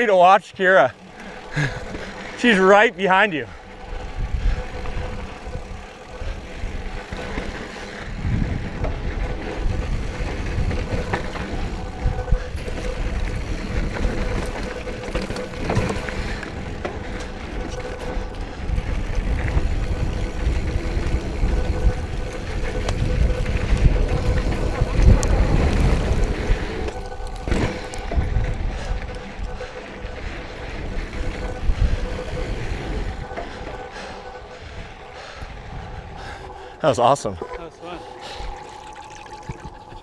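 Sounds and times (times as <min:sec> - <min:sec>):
bike rattling: 0:00.0 - 0:40.0
thin whine: 0:00.0 - 0:40.0
wind rumbling on microphone: 0:00.9 - 0:40.0.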